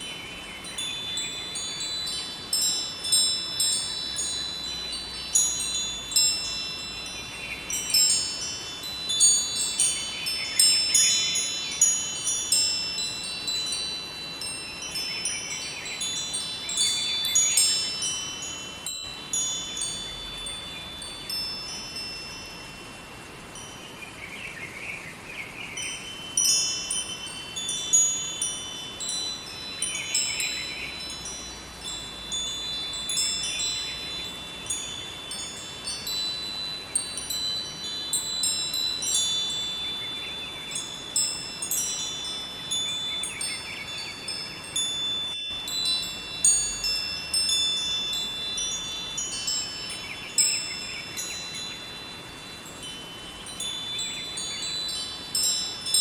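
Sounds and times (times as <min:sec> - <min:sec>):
river rushing: 0:00.0 - 0:56.0
wind chimes ringing: 0:00.0 - 0:56.0.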